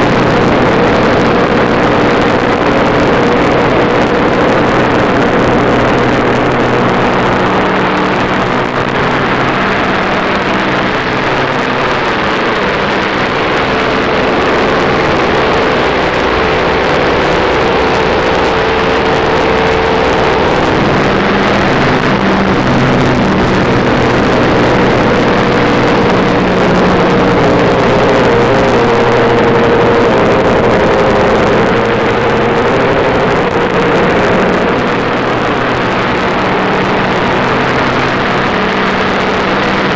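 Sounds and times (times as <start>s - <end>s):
race car engine running hard: 0.0s - 39.9s
wind and tyre roar: 0.0s - 39.9s.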